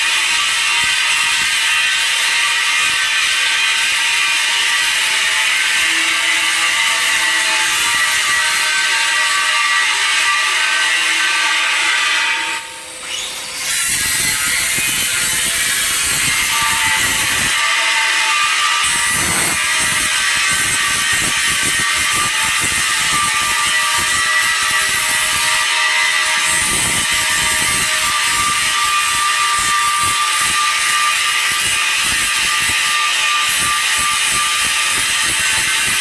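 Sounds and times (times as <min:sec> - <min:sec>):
welding arc crackling and hissing: 0:00.0 - 0:12.6, 0:13.8 - 0:36.0.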